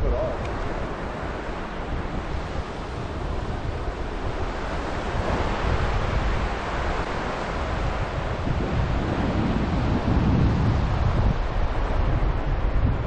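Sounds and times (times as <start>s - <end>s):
ocean surf washing on beach: 0.0s - 13.0s
wind buffeting microphone: 0.0s - 13.0s.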